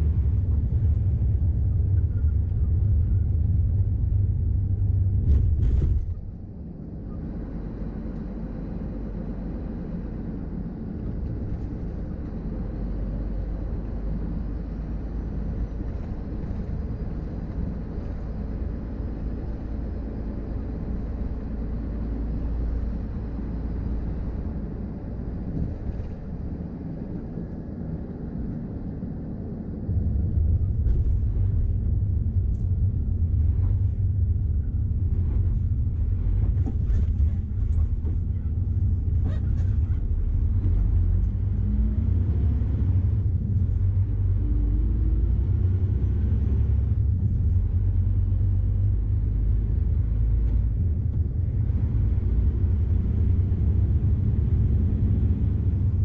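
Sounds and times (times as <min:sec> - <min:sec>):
road noise: 0:00.0 - 0:56.0
truck diesel engine rumble: 0:00.0 - 0:56.0.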